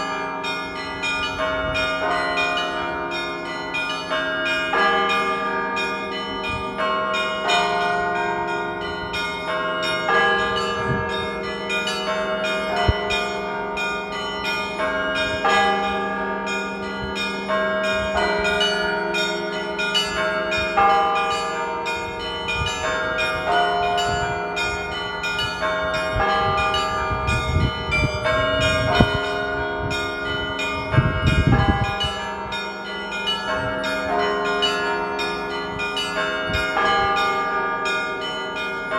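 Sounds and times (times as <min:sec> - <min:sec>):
large low bell hum: 0:00.0 - 0:38.9.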